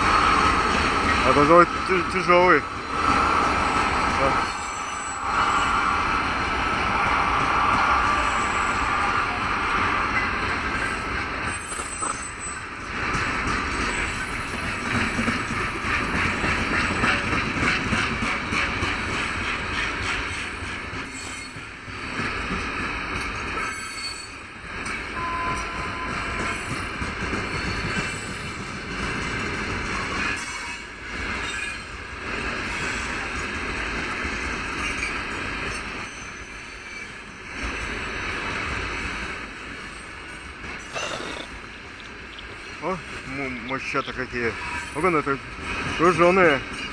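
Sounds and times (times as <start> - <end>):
freight wagons rolling on rails: 0.0 - 5.9, 8.2 - 46.9
wheels squealing: 8.0 - 46.9.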